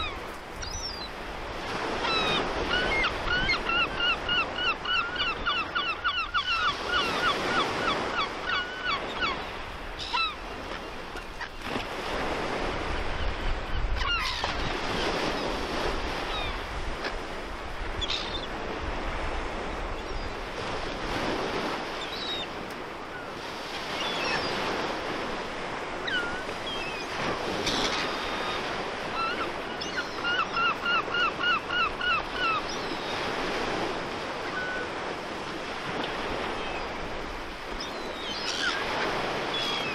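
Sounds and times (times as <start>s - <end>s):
gulls calling: 0.0s - 11.9s, 13.1s - 17.2s, 21.2s - 39.9s.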